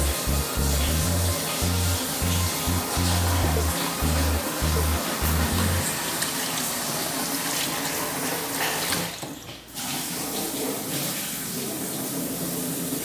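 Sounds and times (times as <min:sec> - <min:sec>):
water running from drain outlet: 0:00.0 - 0:13.0.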